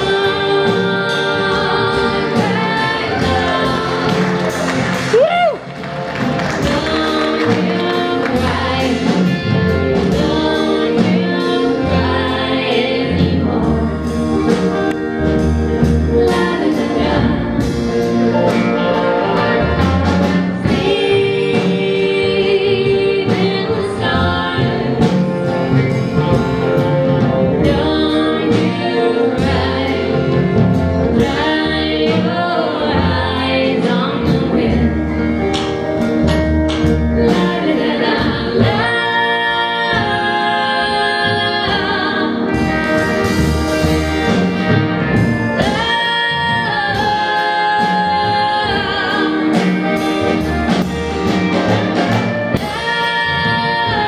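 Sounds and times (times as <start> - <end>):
women singing in harmony: 0.0 - 5.1, 6.5 - 14.7, 16.1 - 25.6, 27.0 - 35.4, 37.1 - 42.8, 45.6 - 50.5, 52.5 - 54.0
guitar: 0.0 - 54.0
upright bass: 0.0 - 54.0.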